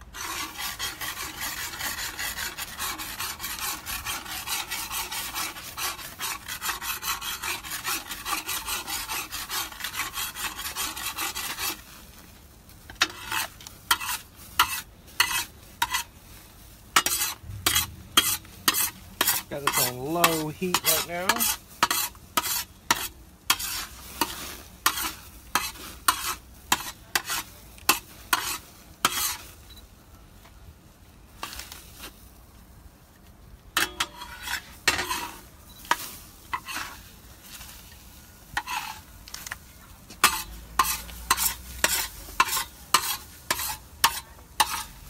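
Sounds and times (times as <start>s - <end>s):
utensil scraping a pan: 0.0s - 29.5s, 31.4s - 32.2s, 33.8s - 45.0s
faint sizzle: 8.3s - 45.0s.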